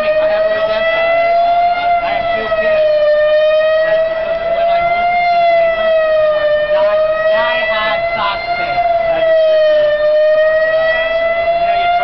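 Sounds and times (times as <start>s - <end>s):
tornado siren wailing: 0.0s - 12.0s.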